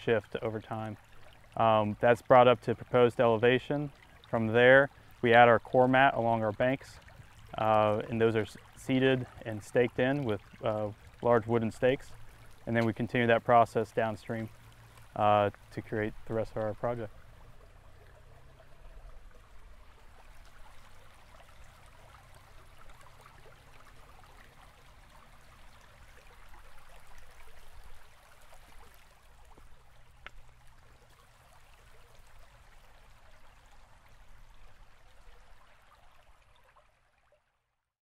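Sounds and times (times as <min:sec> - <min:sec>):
stream babbling: 0:00.0 - 0:37.7
low water rumble: 0:00.0 - 0:37.8.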